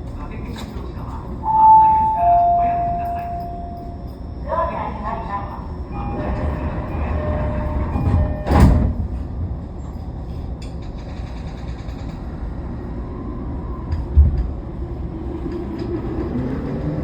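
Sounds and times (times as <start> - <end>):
train cabin rumble: 0.0 - 17.0
train inverter whine: 0.0 - 17.0.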